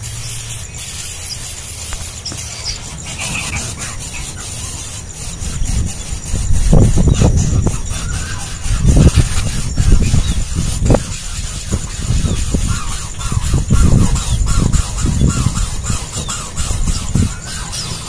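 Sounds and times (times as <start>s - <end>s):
chicks giving raspy begging cries: 0.0s - 18.0s
low wind rumble on microphone: 0.0s - 18.0s.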